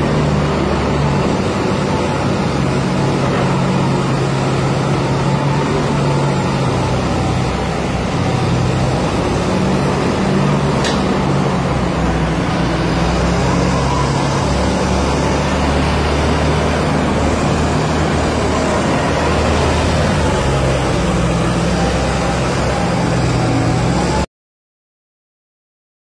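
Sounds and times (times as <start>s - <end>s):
diesel engines working under load: 0.0s - 24.3s.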